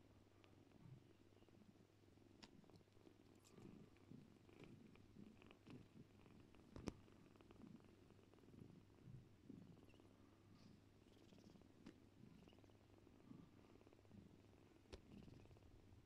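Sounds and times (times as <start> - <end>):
cats purring: 0.0 - 16.0.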